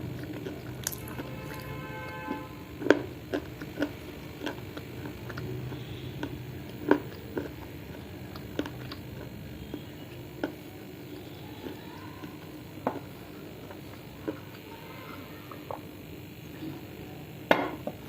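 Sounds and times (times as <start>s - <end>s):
chewing with sharp crunches: 0.0s - 17.4s.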